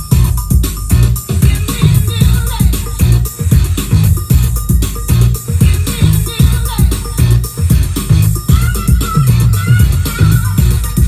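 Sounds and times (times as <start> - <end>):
dance music with heavy bass: 0.0 - 11.0.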